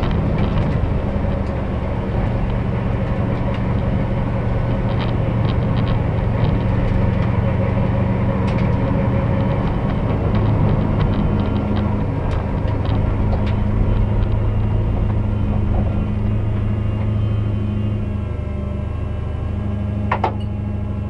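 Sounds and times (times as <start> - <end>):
light ticks and rattles: 0.0 - 17.2
car engine droning: 0.0 - 21.0.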